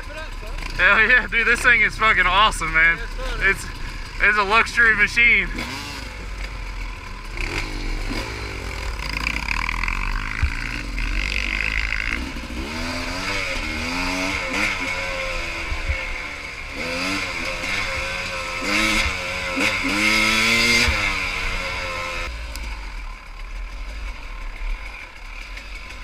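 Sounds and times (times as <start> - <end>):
motorbike engine revving: 0.0 - 26.0.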